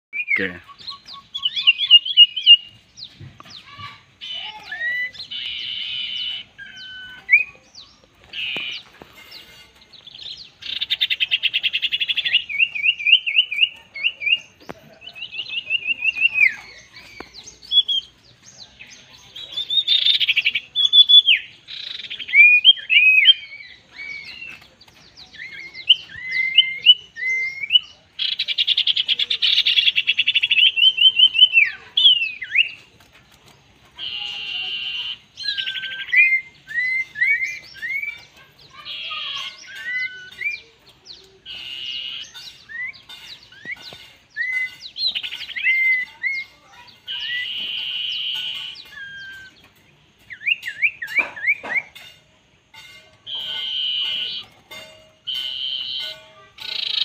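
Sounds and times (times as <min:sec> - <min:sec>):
birds buzzy chattering: 0:00.1 - 0:57.0
whistled bird trills: 0:00.2 - 0:02.8, 0:03.5 - 0:32.8, 0:34.0 - 0:52.2, 0:52.8 - 0:57.0.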